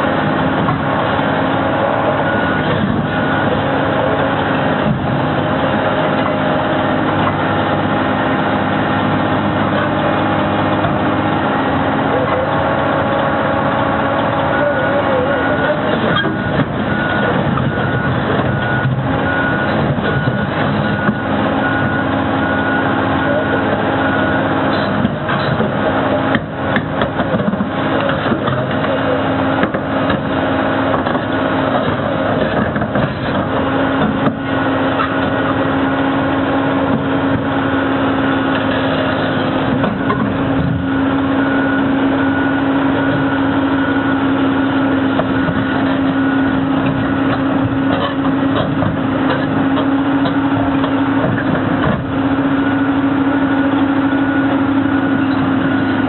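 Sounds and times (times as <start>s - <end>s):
diesel engine under load: 0.0s - 56.0s
steel tracks clanking: 9.6s - 56.0s.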